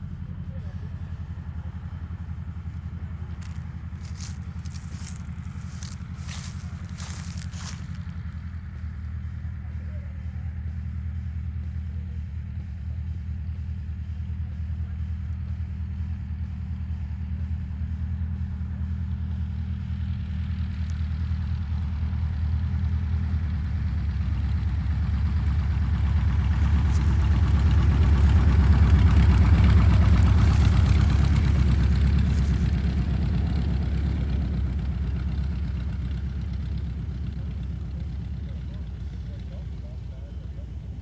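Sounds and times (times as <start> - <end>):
propeller plane engine drone: 0.0 - 41.0.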